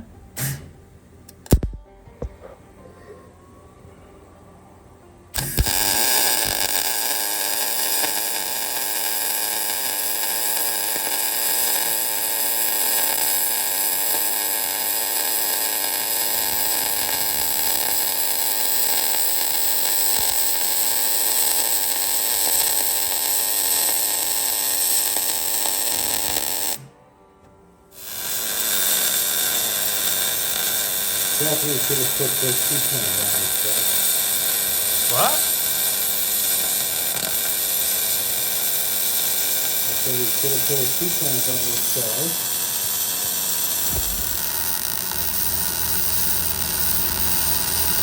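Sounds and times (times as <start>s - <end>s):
arc welder crackling sizzle: 1.3s - 1.8s, 5.4s - 27.0s, 27.9s - 48.0s.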